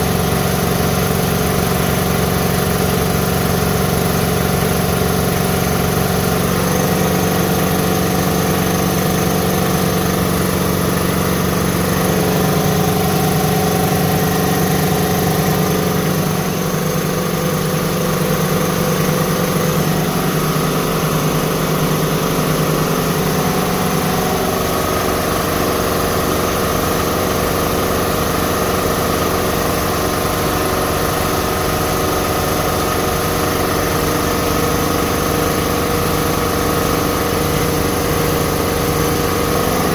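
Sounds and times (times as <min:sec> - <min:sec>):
air compressors humming: 0:00.0 - 0:39.9.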